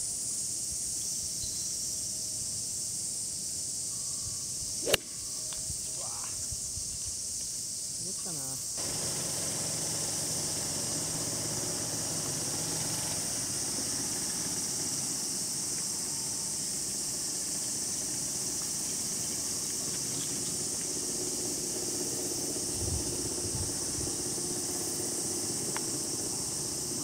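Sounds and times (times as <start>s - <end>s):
cicada chorus drone: 0.0s - 27.0s.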